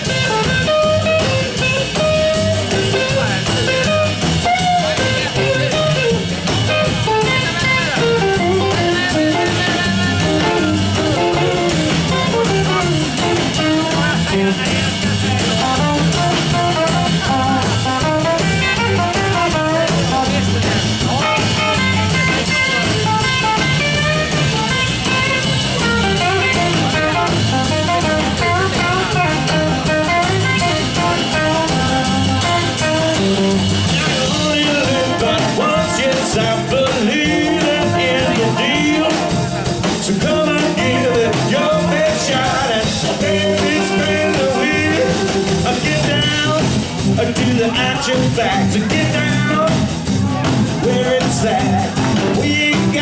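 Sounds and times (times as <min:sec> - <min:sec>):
double bass: 0:00.0 - 0:53.0
drum kit: 0:00.0 - 0:53.0
electric guitar: 0:00.0 - 0:53.0.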